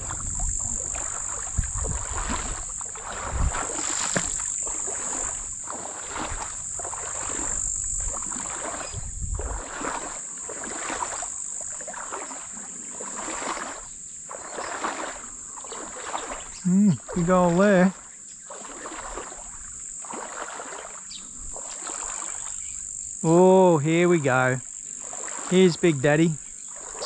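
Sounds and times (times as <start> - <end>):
splashing steps: 0.0 - 27.0
water sloshing around legs: 0.0 - 27.0.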